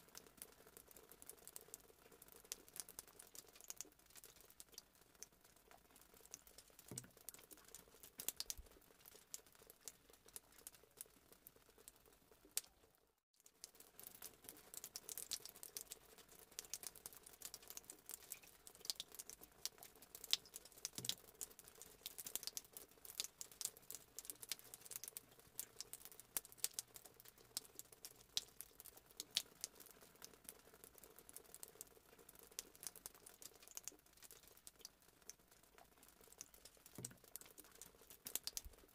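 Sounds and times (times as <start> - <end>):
water simmering in a pot: 0.0 - 38.9.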